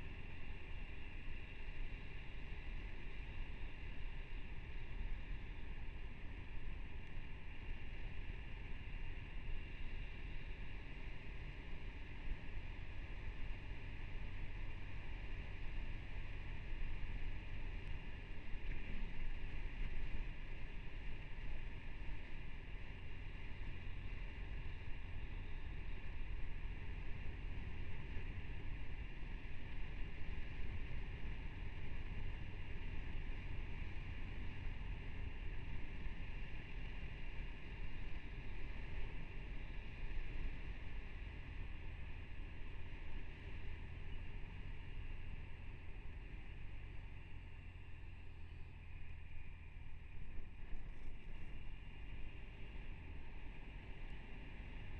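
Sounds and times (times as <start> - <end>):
motorcycle engine at road speed: 0.0 - 54.9.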